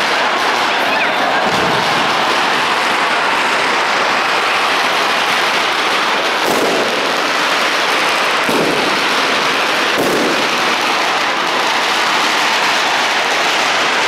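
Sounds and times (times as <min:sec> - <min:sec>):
firecrackers crackling: 0:00.0 - 0:14.0
firework bangs: 0:00.0 - 0:14.0.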